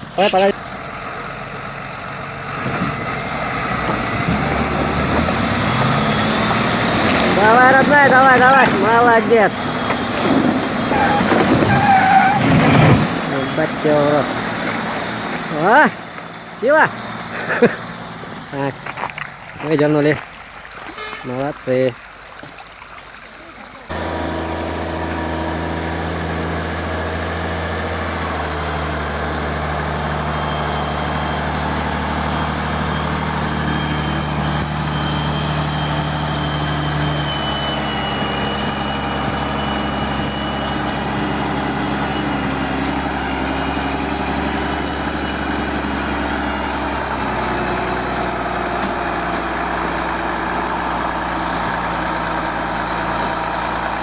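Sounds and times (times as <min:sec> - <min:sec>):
heavy vehicle engine running: 0:00.0 - 0:20.0, 0:23.8 - 0:54.0.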